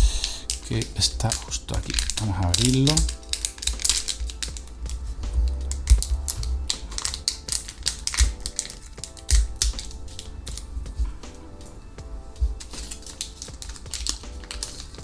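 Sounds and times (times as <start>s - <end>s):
background music: 0.0s - 15.0s
plastic bag crinkling: 0.3s - 10.7s, 12.6s - 15.0s.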